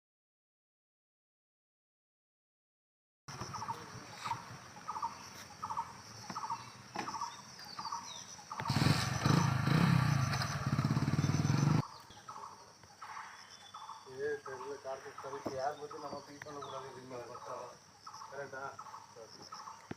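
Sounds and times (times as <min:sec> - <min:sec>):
bird chirping: 0:03.3 - 0:19.9.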